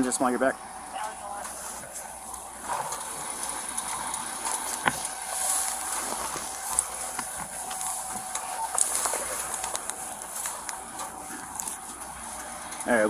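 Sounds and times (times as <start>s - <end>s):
clothing rustling on microphone: 1.5s - 12.7s.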